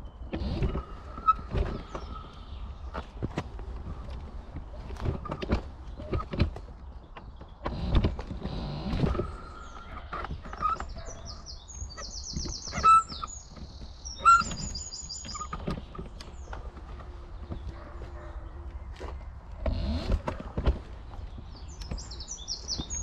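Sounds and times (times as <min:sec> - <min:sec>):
scooter knocks and rattles: 0:00.0 - 0:23.0
songbird singing: 0:00.0 - 0:23.0.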